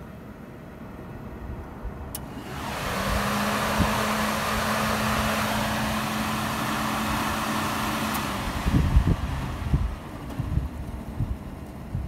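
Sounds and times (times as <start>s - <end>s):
cooling fan air rush: 0.0s - 12.0s
fan motor hum: 0.1s - 12.0s.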